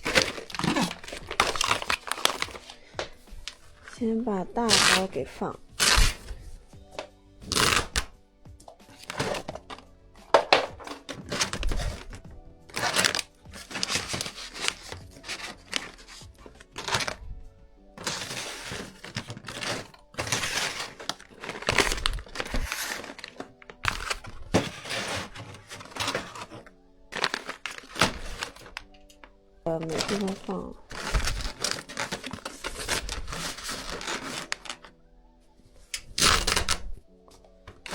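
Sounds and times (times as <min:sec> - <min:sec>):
plastic bags crinkling: 0:00.0 - 0:08.1, 0:08.8 - 0:35.0, 0:35.9 - 0:37.0, 0:37.6 - 0:37.9
quiet background music: 0:00.0 - 0:37.9.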